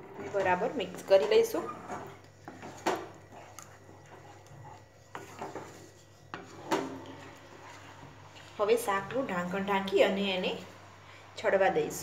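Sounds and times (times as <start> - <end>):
wooden spatula scraping pan: 0.0 - 10.7.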